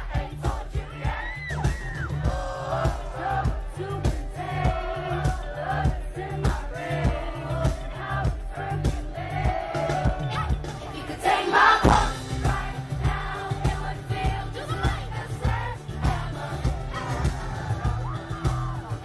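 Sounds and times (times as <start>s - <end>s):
female group vocals singing: 0.0s - 19.0s.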